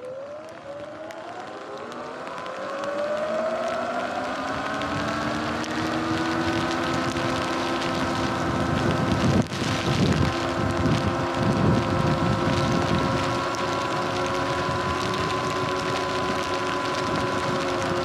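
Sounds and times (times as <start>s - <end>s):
tyres hissing on wet road: 0.4s - 18.0s
wind buffeting microphone: 2.8s - 18.0s.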